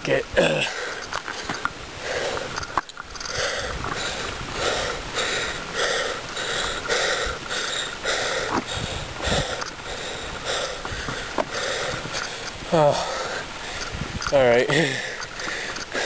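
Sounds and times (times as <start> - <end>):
man panting heavily: 0.6 - 2.6, 3.2 - 13.9, 14.6 - 16.0.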